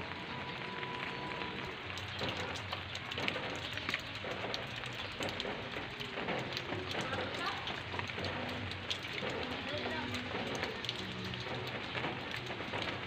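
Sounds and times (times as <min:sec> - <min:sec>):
heavy rain on leaves: 0:00.0 - 0:13.0.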